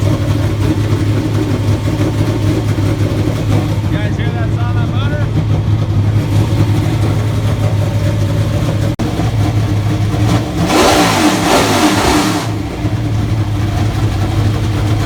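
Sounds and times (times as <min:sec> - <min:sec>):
race car engine idling: 0:00.0 - 0:15.0
race car engine revving: 0:00.0 - 0:15.0.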